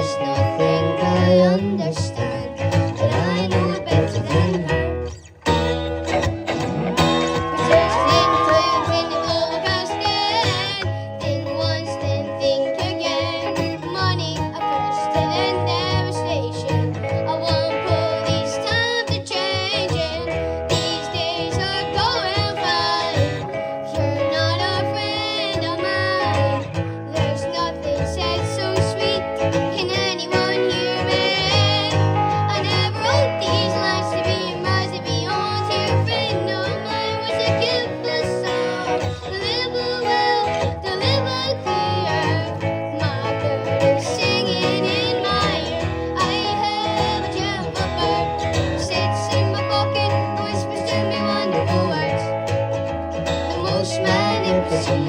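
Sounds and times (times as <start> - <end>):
high wordless singing: 0.0 - 5.2, 6.1 - 52.5, 53.2 - 55.0
acoustic guitar playing: 0.0 - 55.0.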